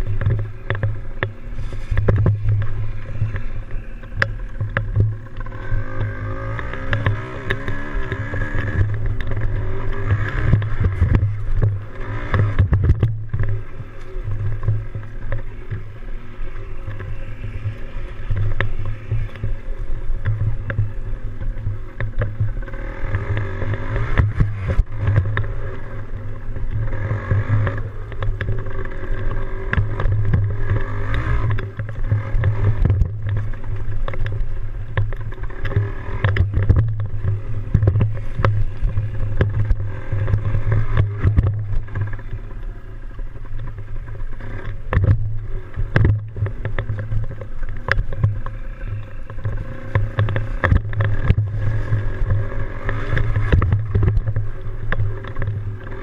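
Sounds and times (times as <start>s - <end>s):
two-stroke dirt bike engine revving: 0.0s - 56.0s.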